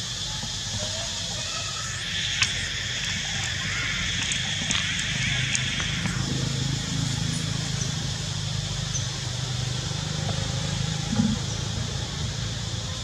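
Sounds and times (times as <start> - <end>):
faint high hiss: 0.0 - 11.3
low motor hum: 2.0 - 13.0.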